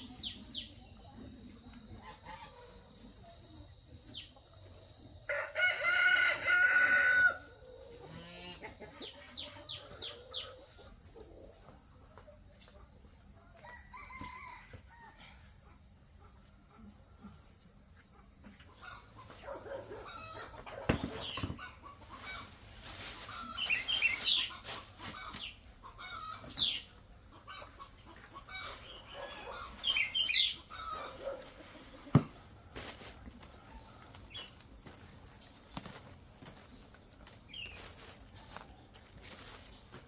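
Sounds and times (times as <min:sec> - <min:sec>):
chickens clucking and squawking: 0:00.0 - 0:13.4, 0:15.2 - 0:35.5.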